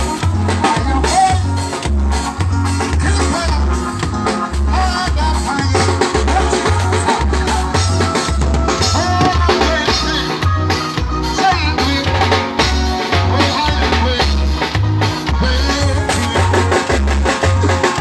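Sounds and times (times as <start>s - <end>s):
loud music through speaker: 0.0s - 18.0s.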